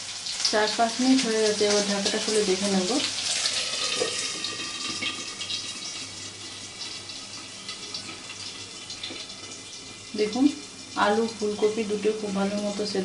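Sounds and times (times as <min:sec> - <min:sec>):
curry bubbling in a pan: 0:00.0 - 0:12.9.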